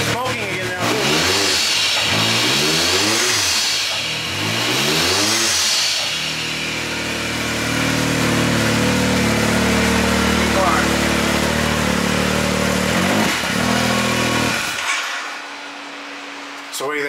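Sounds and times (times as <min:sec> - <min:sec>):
engine revving and idling: 0:00.0 - 0:16.7.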